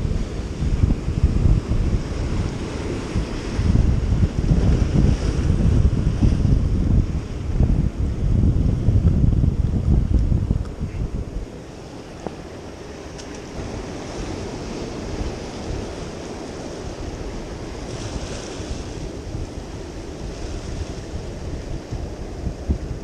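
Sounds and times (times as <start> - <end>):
surf breaking over rocks: 0.0 - 23.0
wind buffeting microphone: 0.0 - 23.0.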